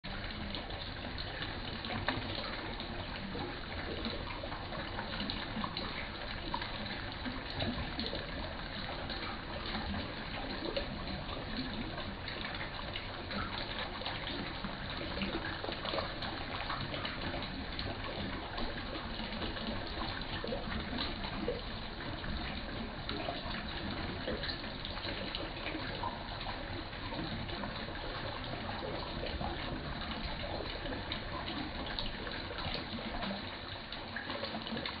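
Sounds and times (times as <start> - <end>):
water pouring into a pond: 0.1 - 35.0.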